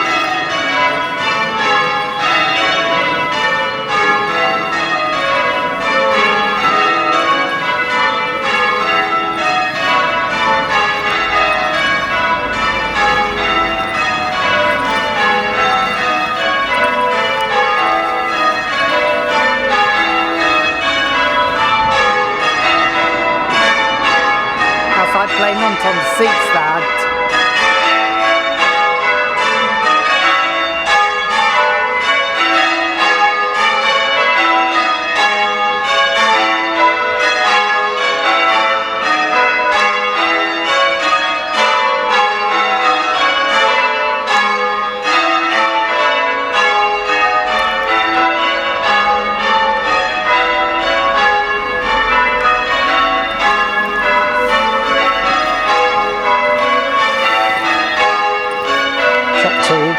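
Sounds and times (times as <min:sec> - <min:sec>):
church bells change ringing: 0:00.0 - 0:59.9.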